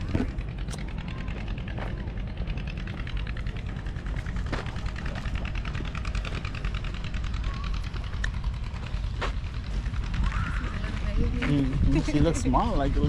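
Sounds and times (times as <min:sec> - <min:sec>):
motor running with fast ticking: 0:00.0 - 0:13.0.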